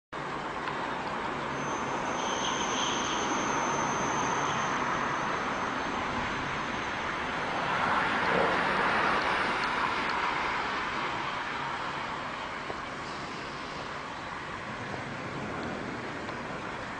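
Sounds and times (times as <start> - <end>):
passenger train running: 0.2 - 16.9
thin high whine: 0.8 - 16.9.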